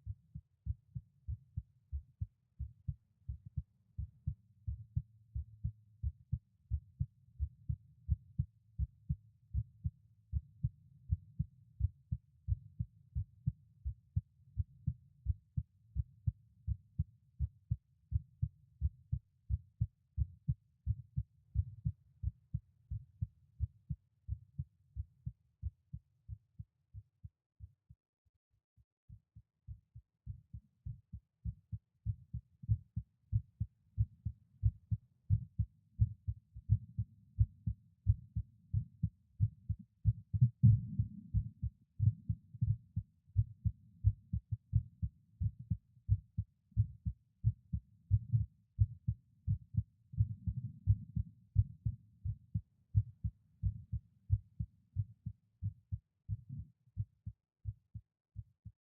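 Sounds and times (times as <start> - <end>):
heartbeat through stethoscope: 0.0 - 28.0, 29.1 - 58.8.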